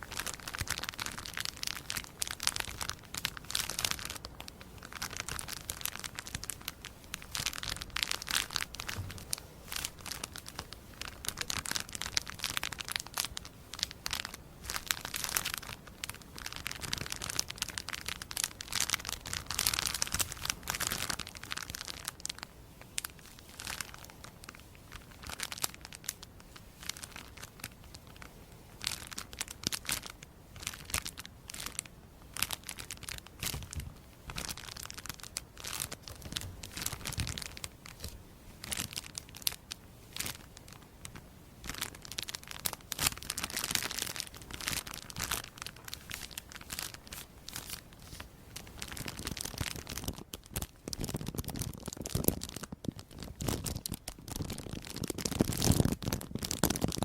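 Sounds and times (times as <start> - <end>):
crisp crinkling and crackling: 0.0 - 57.0.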